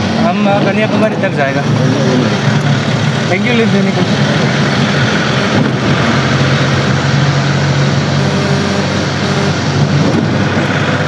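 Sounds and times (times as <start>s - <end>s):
road noise rushing: 0.0s - 11.0s
vehicle engine drone: 0.0s - 11.0s.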